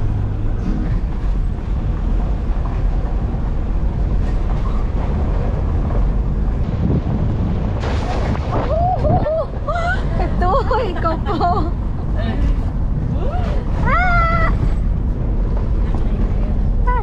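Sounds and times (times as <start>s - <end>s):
vehicle rumble: 0.0s - 17.0s
wind noise on microphone: 0.0s - 17.0s.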